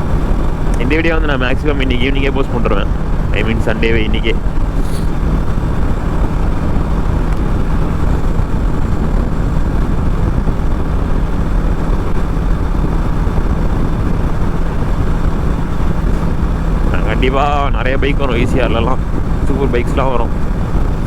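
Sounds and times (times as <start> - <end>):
motorcycle engine hum: 0.0 - 21.0
wind and road noise: 0.0 - 21.0.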